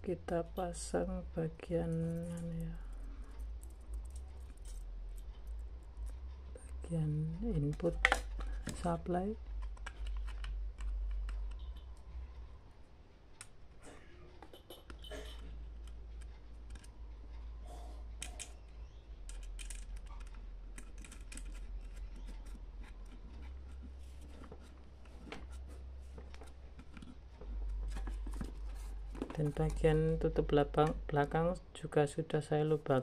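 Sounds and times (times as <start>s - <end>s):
low steady hum: 0.0s - 33.0s
electronic parts clicking and rattling: 1.6s - 12.2s, 14.3s - 31.5s.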